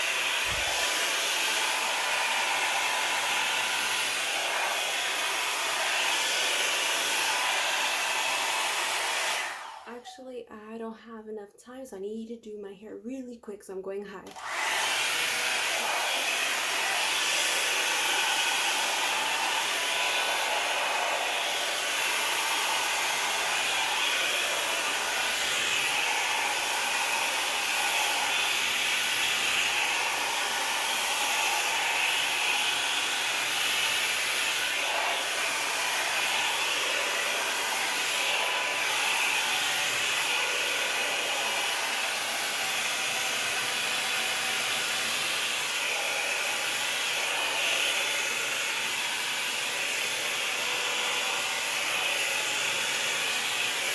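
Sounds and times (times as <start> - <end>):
blow dryer rushing air: 0.0 - 10.0, 14.3 - 53.9.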